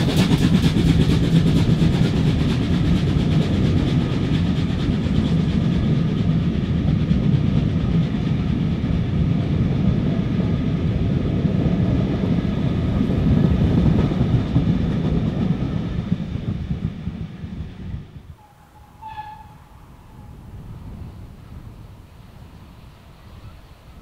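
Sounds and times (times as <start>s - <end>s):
steam train wheels on rail: 0.0s - 24.0s.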